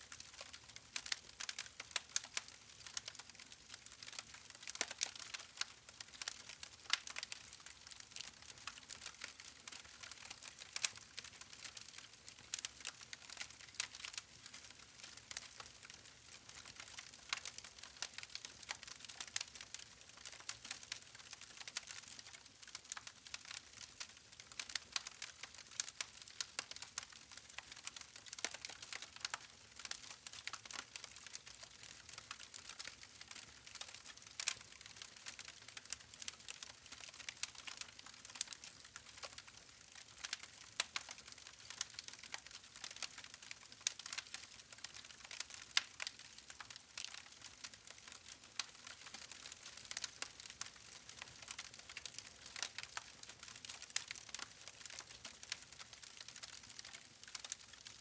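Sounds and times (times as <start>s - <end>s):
campfire crackling and popping: 0.2s - 57.6s.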